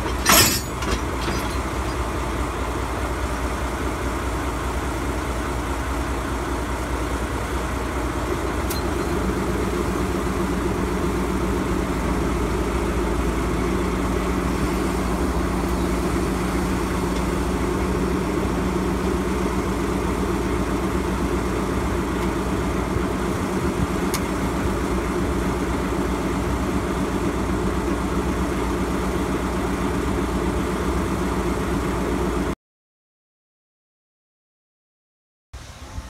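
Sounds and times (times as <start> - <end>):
diesel locomotive idling: 0.0 - 32.6, 35.6 - 36.0.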